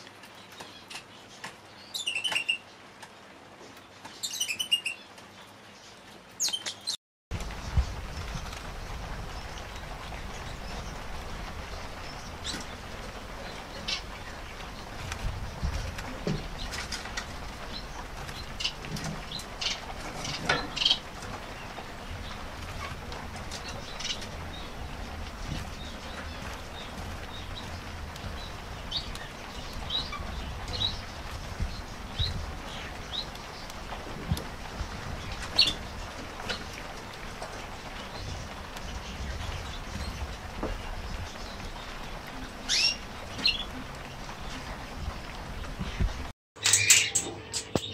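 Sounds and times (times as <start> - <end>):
cage birds chirping: 0.0 - 47.9.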